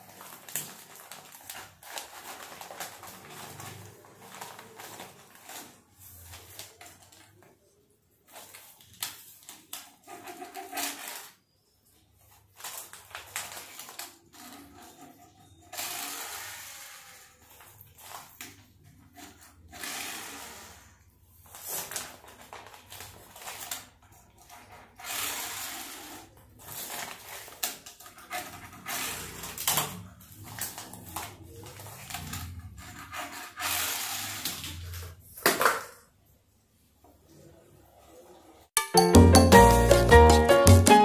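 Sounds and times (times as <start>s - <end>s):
plastic packaging rustling: 0.0s - 36.9s
toy cars set on table: 0.0s - 38.8s.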